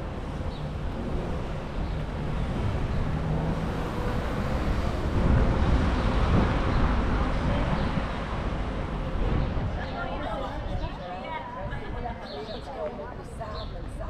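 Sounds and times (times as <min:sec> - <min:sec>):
wind rumbling on microphone: 0:00.0 - 0:12.6.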